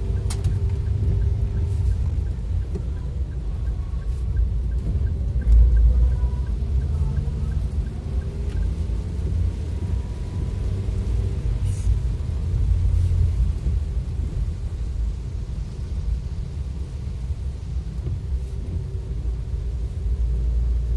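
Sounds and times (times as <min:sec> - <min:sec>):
heavy rain: 0:00.0 - 0:20.9
road noise: 0:00.0 - 0:20.9
vehicle rumble: 0:00.0 - 0:20.9.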